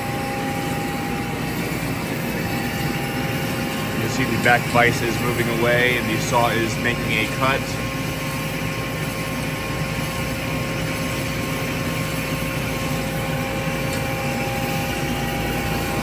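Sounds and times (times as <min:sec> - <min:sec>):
band saw cutting metal: 0:00.0 - 0:16.0
motor whine: 0:00.0 - 0:16.0.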